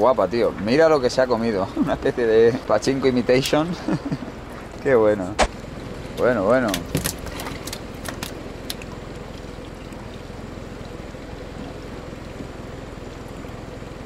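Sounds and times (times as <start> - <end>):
boat motor running: 0.0 - 14.0
water sloshing around hull: 0.0 - 14.0.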